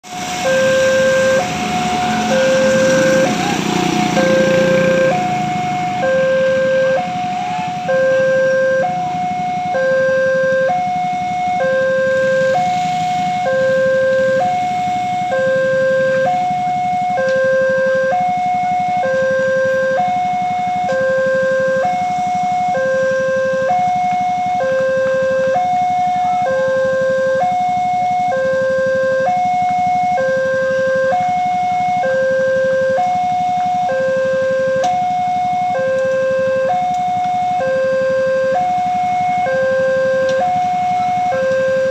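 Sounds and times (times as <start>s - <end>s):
low traffic rumble: 0.0s - 41.9s
level crossing alarm two-tone: 0.2s - 41.9s.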